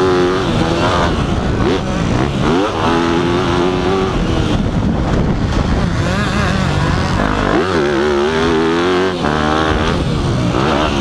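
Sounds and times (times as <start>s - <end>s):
motocross bike engine revving: 0.0s - 11.0s
wind rush on camera: 0.0s - 11.0s.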